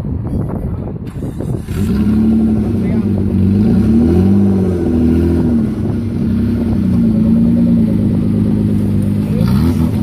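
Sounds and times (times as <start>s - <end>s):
engine revving under load: 1.1s - 10.0s.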